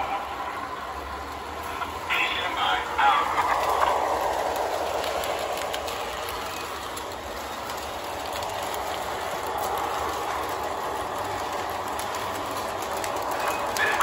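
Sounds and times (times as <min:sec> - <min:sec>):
model train running on track: 0:00.0 - 0:14.0
wheels clicking over rail joints: 0:00.0 - 0:14.0.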